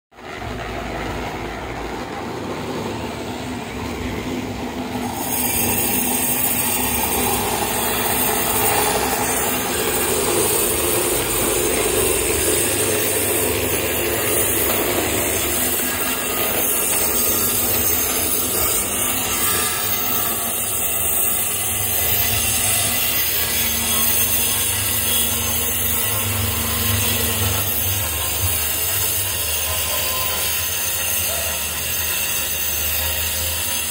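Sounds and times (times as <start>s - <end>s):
construction machinery running: 0.2s - 33.9s.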